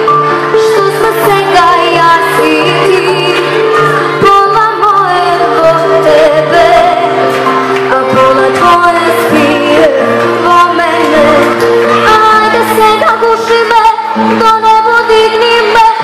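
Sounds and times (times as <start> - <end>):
electronic keyboard accompaniment: 0.0 - 16.0
girl singing a pop ballad: 0.3 - 16.0.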